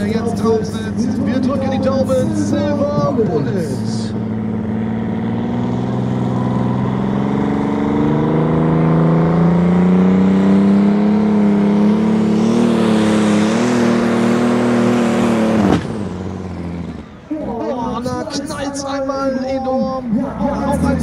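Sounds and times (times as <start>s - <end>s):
tractor engine running under load: 0.0s - 18.7s.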